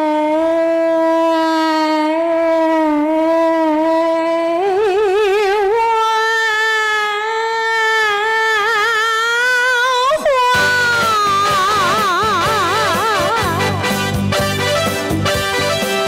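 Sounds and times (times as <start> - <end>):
woman singing long notes: 0.0 - 14.2.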